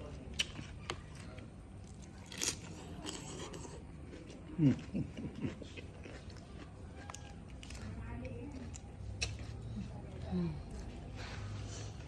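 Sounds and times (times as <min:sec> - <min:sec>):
person eating: 0:00.0 - 0:12.0.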